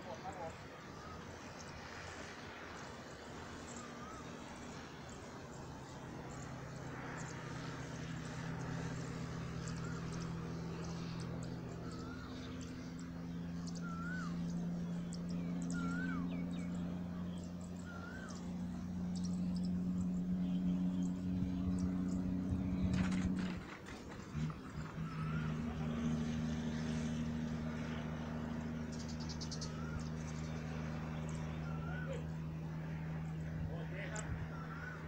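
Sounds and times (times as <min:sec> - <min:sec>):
bird calling: 0:00.0 - 0:05.1, 0:06.2 - 0:35.0
electric motor and propeller drone: 0:00.0 - 0:35.0.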